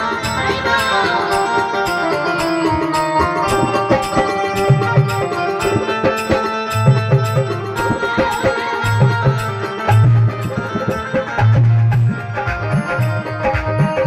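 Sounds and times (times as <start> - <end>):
dholak drum rhythm: 0.0 - 14.0
melody of held notes: 0.0 - 14.0.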